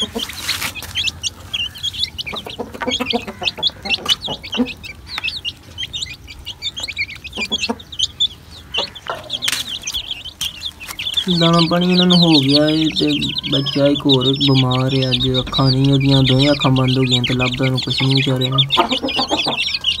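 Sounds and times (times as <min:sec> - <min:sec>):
chicks peeping: 0:00.0 - 0:20.0
hen clucking: 0:00.0 - 0:20.0.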